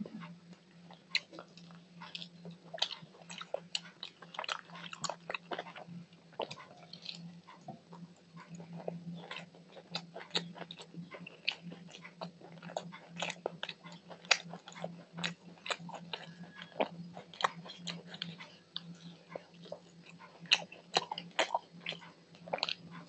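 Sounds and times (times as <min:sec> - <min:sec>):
low hum: 0:00.0 - 0:23.0
mouth chewing clicks and smacks: 0:00.1 - 0:23.0.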